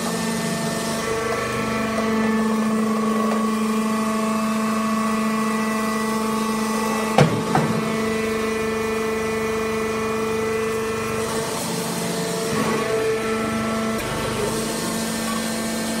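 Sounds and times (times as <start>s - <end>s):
hydraulic motor and pump hum: 0.0s - 16.0s.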